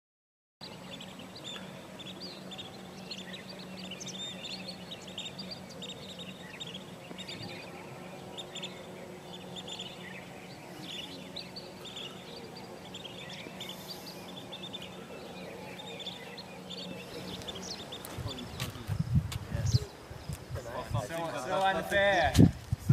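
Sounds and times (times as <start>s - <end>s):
birds chirping: 0.6s - 22.3s
steady low hum: 0.6s - 22.9s.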